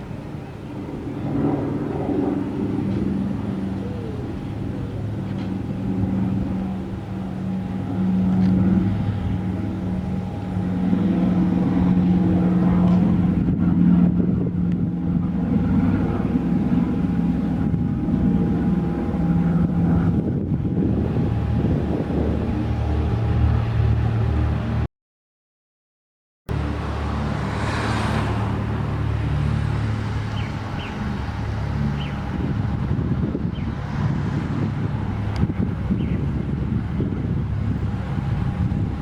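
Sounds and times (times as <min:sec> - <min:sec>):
engine running with whine: 0:00.0 - 0:24.9, 0:26.5 - 0:39.0.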